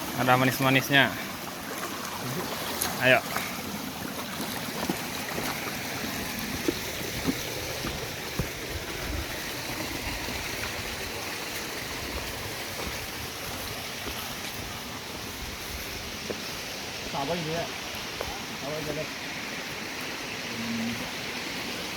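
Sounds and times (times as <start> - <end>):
stream water flowing: 0.0 - 21.9.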